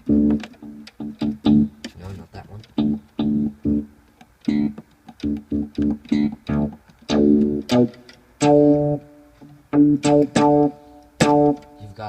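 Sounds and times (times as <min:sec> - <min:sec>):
keyboard bass notes: 0:00.0 - 0:12.0.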